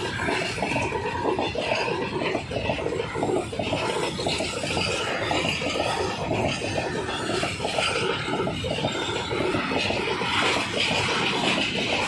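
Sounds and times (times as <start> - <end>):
steel wheels clattering on rails: 0.0 - 12.0.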